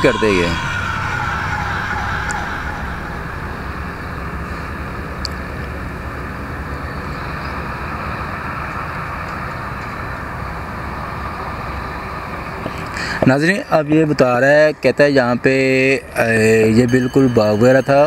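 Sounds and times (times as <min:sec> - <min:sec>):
low rumble of vehicle noise: 0:00.0 - 0:18.0.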